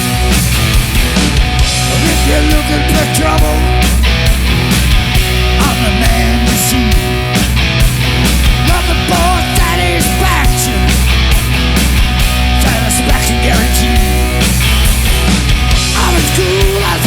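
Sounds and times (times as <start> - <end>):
loud hard rock music: 0.0 - 17.0
steady drum beat: 0.0 - 17.0
wavering lead line: 0.1 - 17.0.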